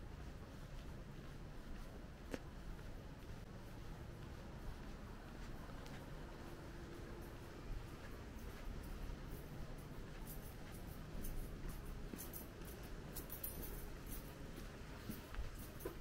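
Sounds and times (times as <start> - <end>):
footsteps scuffing: 0.0 - 16.0
low steady background hum: 0.0 - 16.0.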